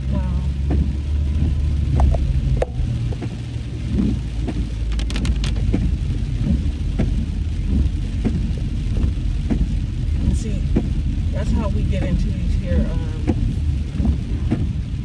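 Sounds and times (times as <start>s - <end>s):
car driving rumble: 0.0s - 15.0s
heavy rain pattering on a car: 0.0s - 15.0s.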